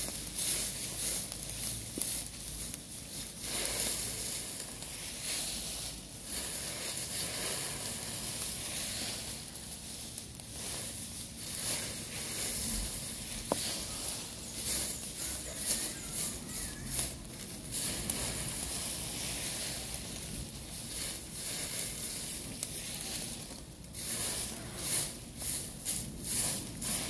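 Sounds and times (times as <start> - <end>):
leaves burning with hissing crackle: 0.0 - 27.0.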